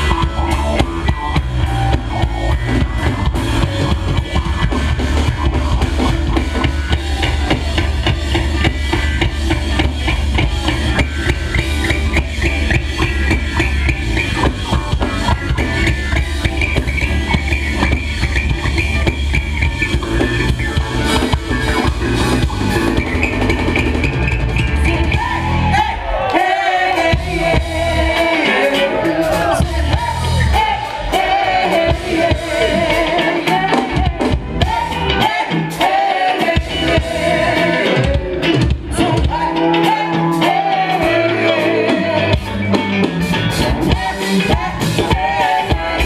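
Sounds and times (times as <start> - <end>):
bass guitar groove: 0.0 - 46.0
drum kit: 0.0 - 46.0
funk band playing: 0.0 - 46.0.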